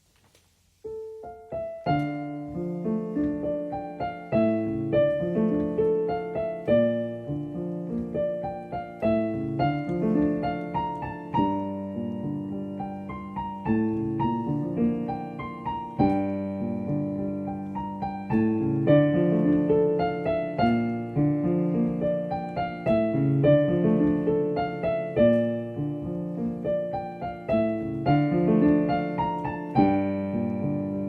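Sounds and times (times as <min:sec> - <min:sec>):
solo piano melody: 0:00.0 - 0:31.0.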